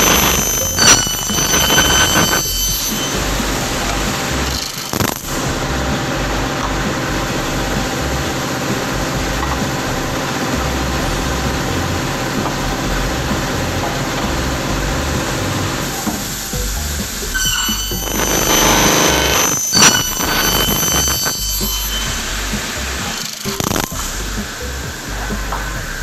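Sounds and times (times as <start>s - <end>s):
saw motor humming: 0.0s - 26.0s.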